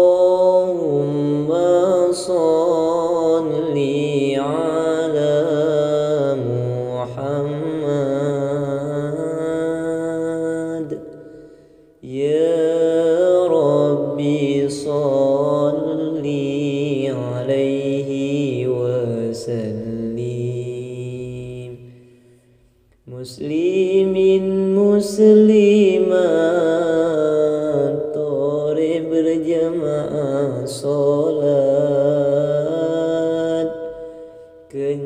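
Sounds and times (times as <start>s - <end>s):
man chanting: 0.0s - 11.3s, 12.0s - 22.0s, 23.0s - 35.0s.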